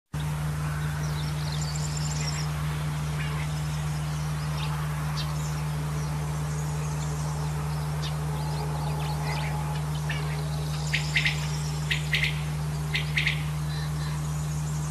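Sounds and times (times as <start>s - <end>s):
steady low hum: 0.2s - 14.9s
high bird chirps: 0.8s - 14.9s.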